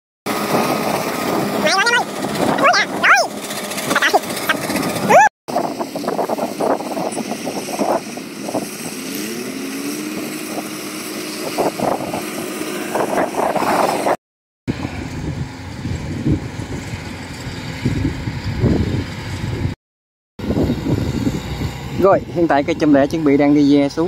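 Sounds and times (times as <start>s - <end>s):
combine harvester diesel drone: 0.3s - 14.1s, 14.7s - 19.8s, 20.4s - 24.0s.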